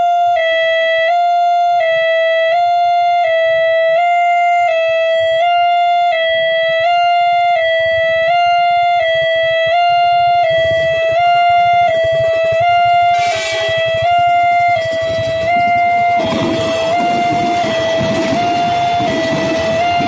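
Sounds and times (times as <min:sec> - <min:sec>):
level-crossing two-tone alarm chime: 0:00.0 - 0:20.0.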